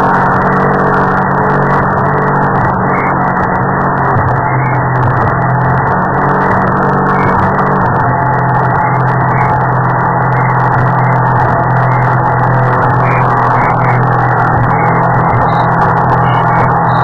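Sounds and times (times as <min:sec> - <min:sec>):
speedboat engine droning: 0:00.0 - 0:17.0.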